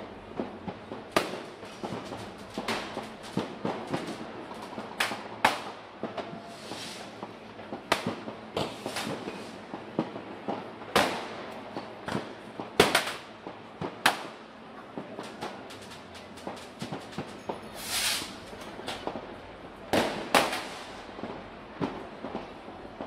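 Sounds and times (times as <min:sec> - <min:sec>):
fireworks bangs: 0:00.0 - 0:23.0
scattered firecracker pops: 0:00.4 - 0:09.4, 0:10.0 - 0:19.2, 0:19.9 - 0:21.0.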